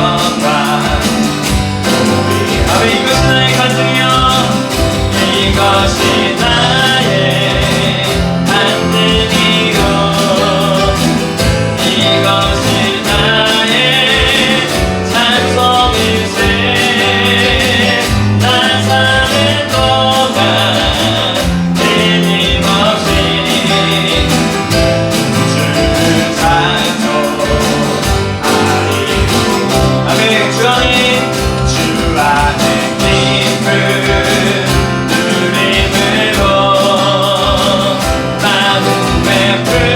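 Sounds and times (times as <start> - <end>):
person singing: 0.0 - 39.9
worship band playing: 0.0 - 39.9.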